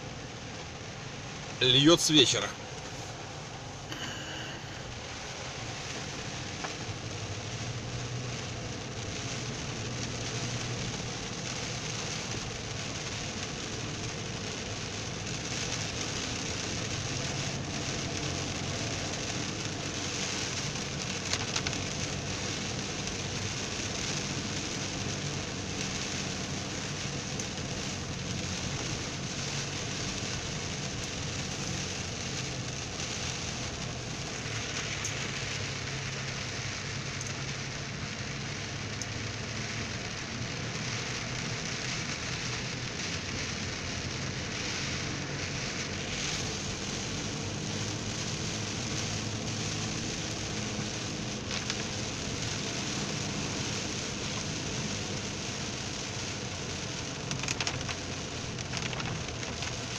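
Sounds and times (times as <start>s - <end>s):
car driving hum: 0.0s - 59.9s
heavy rain on car roof: 0.0s - 59.9s.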